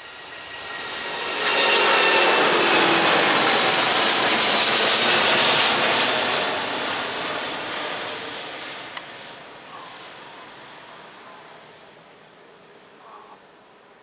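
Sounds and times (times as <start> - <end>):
jet engine roar: 0.0 - 13.1.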